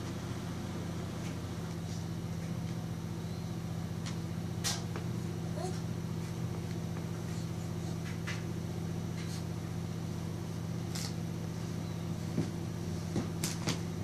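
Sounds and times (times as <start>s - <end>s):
low electric hum: 0.0s - 14.0s.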